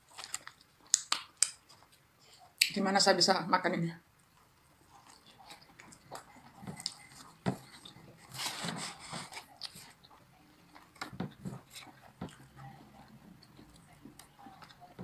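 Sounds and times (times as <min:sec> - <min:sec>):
person chewing fried chicken: 0:00.0 - 0:02.6, 0:04.2 - 0:15.0.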